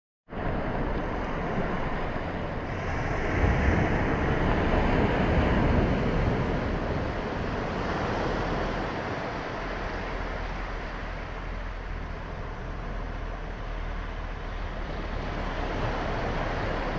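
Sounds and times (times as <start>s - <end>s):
small waves breaking on sand: 0.4s - 16.9s.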